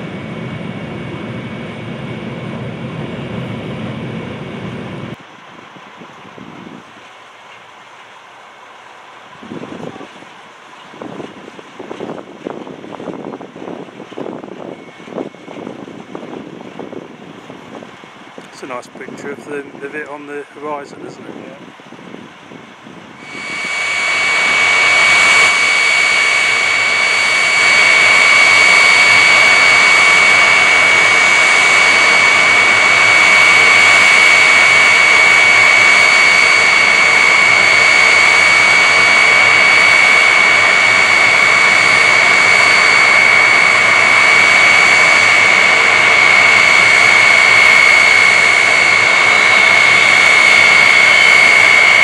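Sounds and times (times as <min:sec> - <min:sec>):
jet engines roaring and whining: 0:00.0 - 0:52.0.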